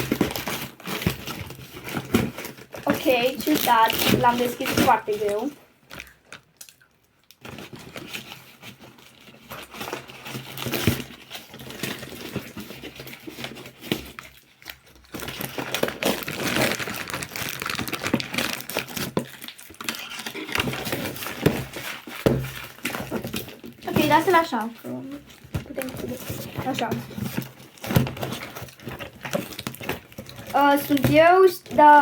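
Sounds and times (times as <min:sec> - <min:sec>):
cardboard box torn and crumpled: 0:00.0 - 0:05.5, 0:07.4 - 0:32.0.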